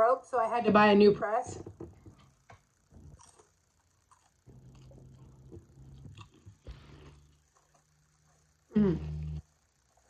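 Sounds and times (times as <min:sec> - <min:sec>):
closed-mouth hum: 0:00.7 - 0:10.0
person chewing food: 0:01.8 - 0:10.0.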